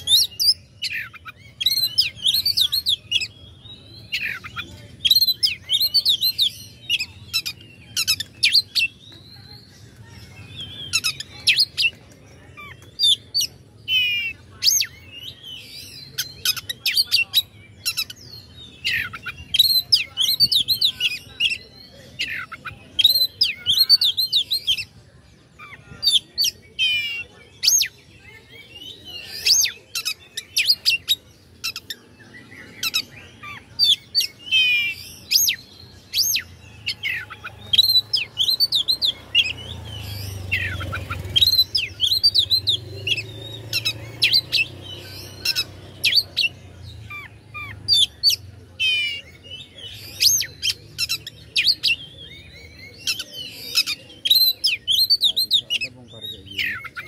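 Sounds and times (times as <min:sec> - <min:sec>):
magpie-robin singing: 0:00.0 - 0:57.0.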